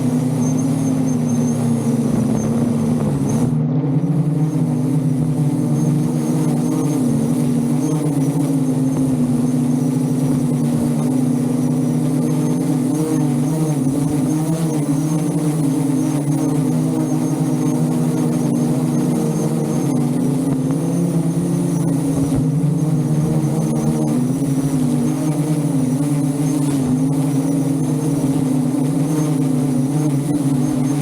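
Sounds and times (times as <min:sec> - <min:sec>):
drone propellers humming: 0:00.0 - 0:31.0.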